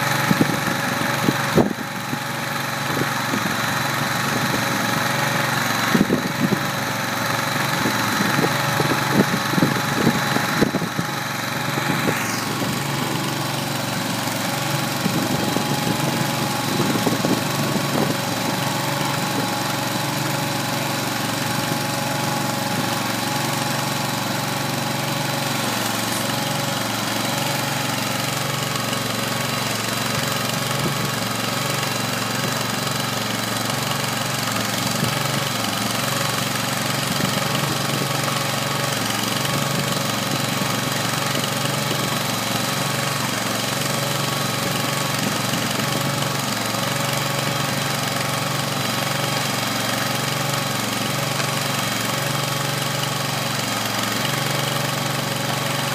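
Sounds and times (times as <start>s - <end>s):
gasoline engine running steadily: 0.0s - 55.9s.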